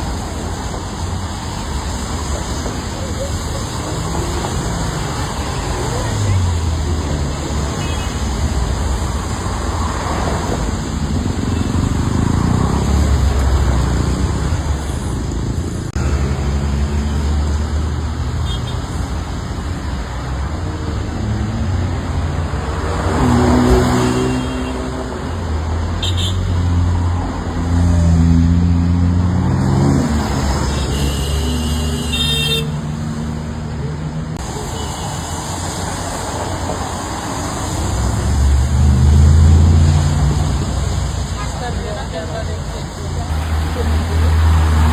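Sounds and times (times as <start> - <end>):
road traffic noise: 0.0 - 44.9.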